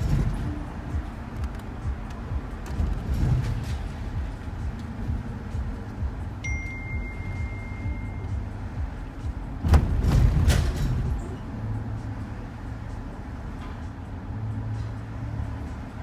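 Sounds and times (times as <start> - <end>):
van rumbling on road: 0.0 - 16.0.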